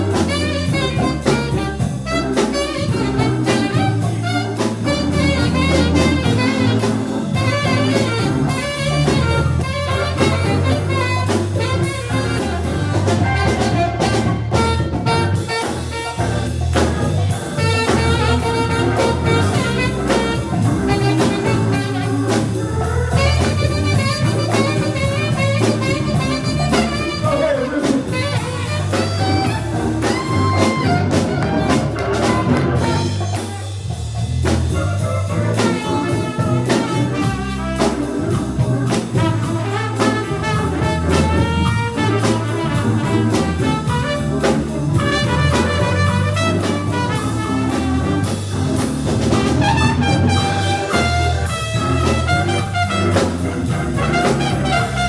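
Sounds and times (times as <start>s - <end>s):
band playing instrumental jazz: 0.0s - 55.0s.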